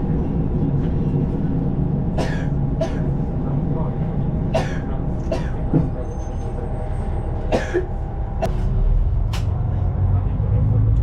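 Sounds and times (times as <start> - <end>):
diesel railcar rumbling: 0.0 - 11.0.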